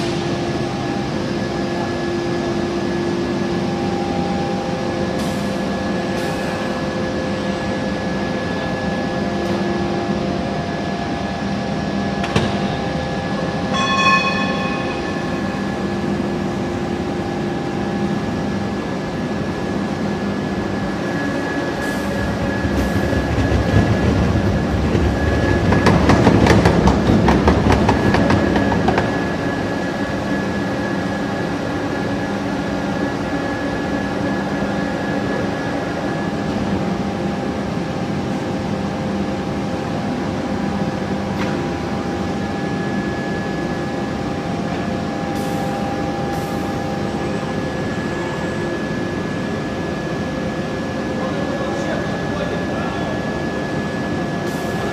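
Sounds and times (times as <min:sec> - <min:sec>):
machine drone with held tones: 0:00.0 - 0:54.9.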